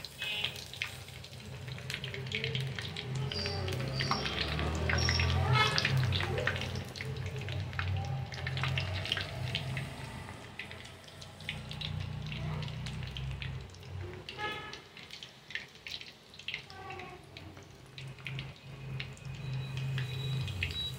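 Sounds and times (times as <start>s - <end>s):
chicken sizzling in hot oil: 0.0s - 20.9s.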